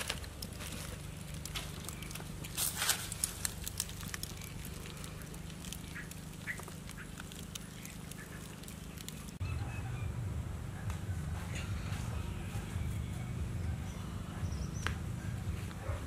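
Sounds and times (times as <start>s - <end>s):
embers crackling: 0.0s - 16.0s
low rumble: 0.1s - 16.0s.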